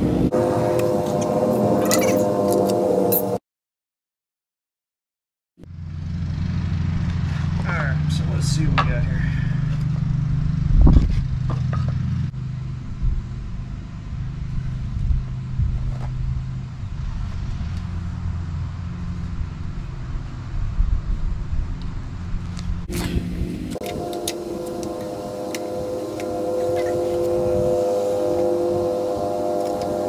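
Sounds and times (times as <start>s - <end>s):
low mechanical hum: 5.6s - 30.0s.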